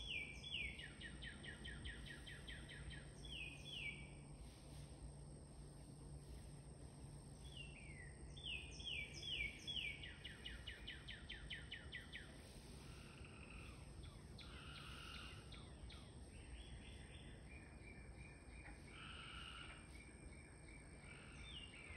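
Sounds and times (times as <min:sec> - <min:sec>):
songbirds singing: 0:00.0 - 0:04.6, 0:07.2 - 0:21.9.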